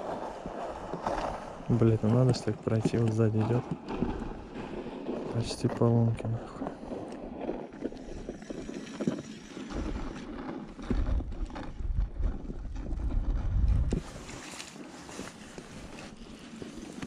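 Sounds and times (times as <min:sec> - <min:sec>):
wind buffeting microphone: 0:00.0 - 0:14.4.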